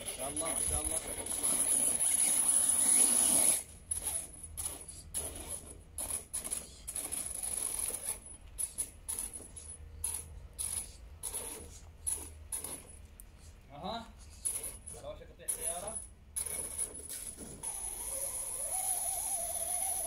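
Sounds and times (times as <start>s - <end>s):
toy car scraping on rocks: 0.0s - 13.0s, 14.2s - 20.0s.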